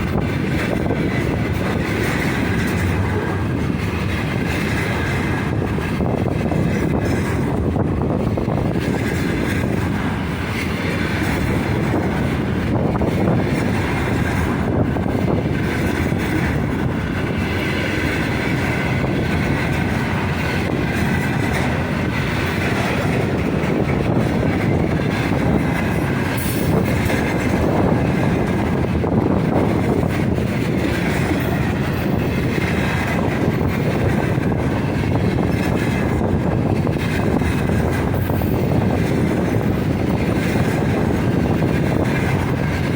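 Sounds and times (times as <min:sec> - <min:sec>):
freight train rolling past: 0:00.0 - 0:42.9
wheels clickety-clack on rails: 0:00.0 - 0:42.9.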